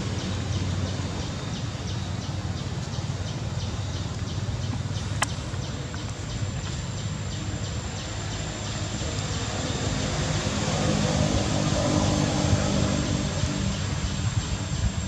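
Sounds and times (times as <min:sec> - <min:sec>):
passing vehicle engine hum: 0:00.0 - 0:15.0
steady high-pitched whine: 0:00.0 - 0:15.0.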